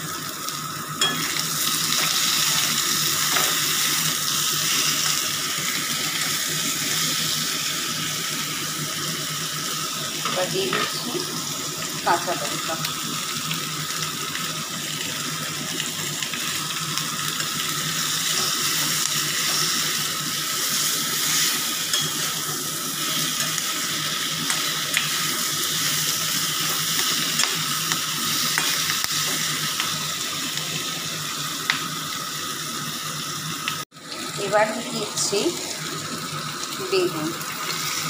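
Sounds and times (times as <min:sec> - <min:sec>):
potatoes sizzling in hot oil: 0:00.0 - 0:38.0.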